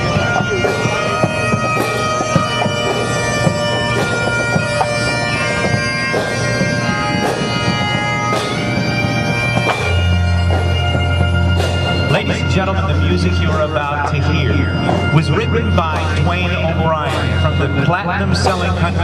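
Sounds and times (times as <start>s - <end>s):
bagpipe music: 0.0s - 19.0s.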